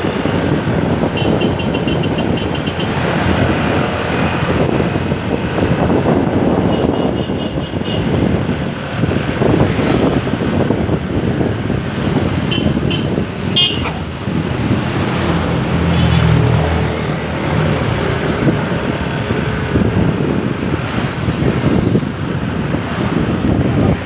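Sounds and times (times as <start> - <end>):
heavy vehicle engine: 0.0 - 24.0
road traffic passing: 0.0 - 24.0
wind on microphone: 0.0 - 24.0.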